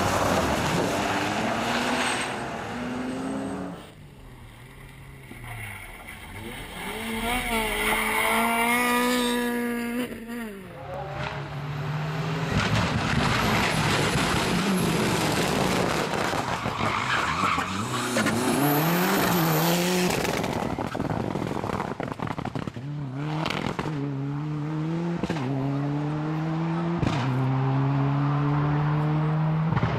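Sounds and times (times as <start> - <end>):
car engine revving: 5.5 - 29.9.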